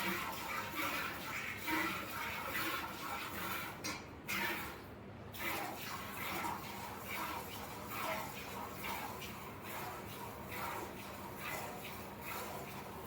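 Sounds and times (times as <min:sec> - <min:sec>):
milk squirting into a pail: 0:00.0 - 0:13.0.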